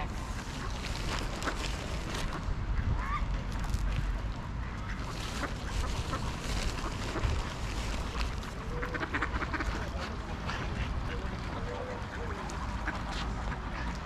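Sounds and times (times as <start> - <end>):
geese and ducks calling: 0.0 - 3.2, 4.5 - 14.0
steady low rumble: 0.0 - 14.0.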